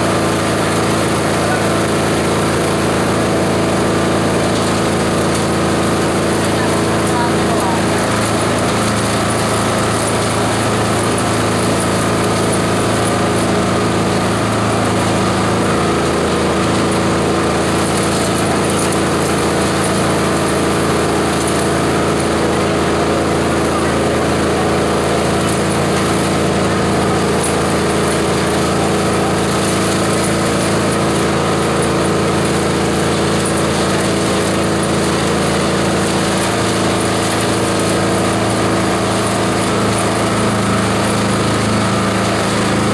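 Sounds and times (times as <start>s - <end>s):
chopper shredder machine droning: 0.0s - 42.9s.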